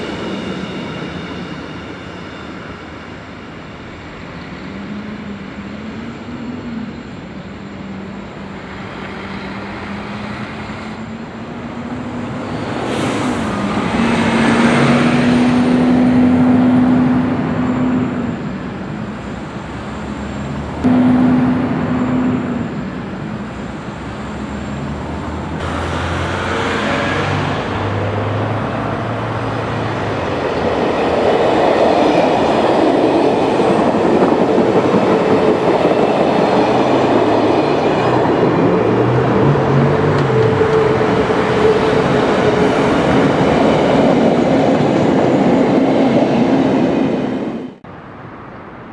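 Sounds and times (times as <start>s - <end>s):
train rumbling: 0.0s - 48.9s.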